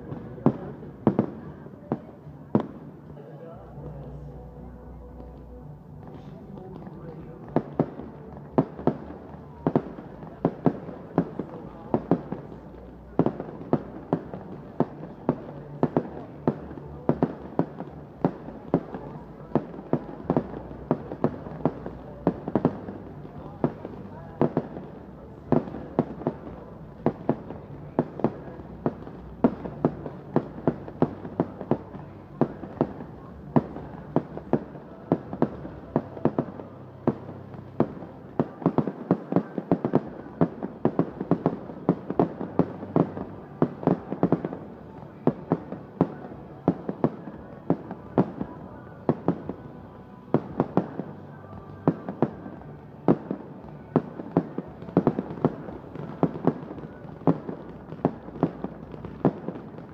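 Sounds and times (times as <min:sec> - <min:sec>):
fireworks bangs: 0:00.0 - 0:03.2, 0:05.1 - 0:59.9.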